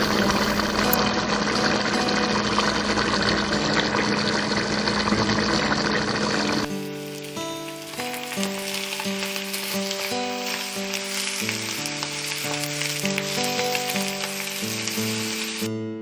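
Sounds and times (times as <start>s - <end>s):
food sizzling in a pan: 0.0s - 15.7s
background music simple melody: 0.0s - 16.0s.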